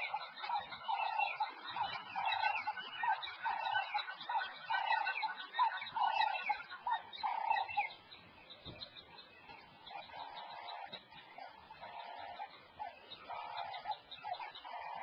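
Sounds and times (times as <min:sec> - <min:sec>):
animal calling: 0:00.0 - 0:08.0, 0:08.7 - 0:15.0.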